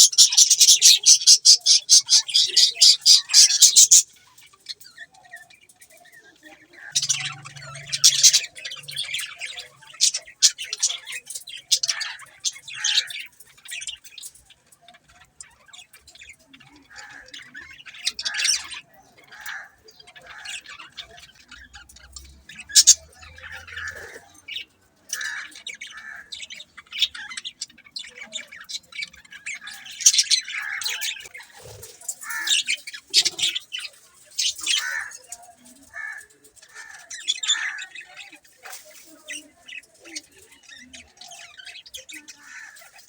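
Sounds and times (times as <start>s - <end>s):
budgerigars chirping and squawking: 0.0s - 43.0s.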